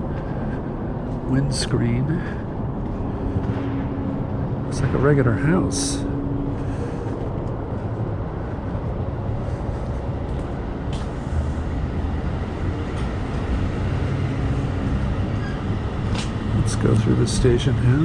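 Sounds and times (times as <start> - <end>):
train running past: 0.0 - 18.0.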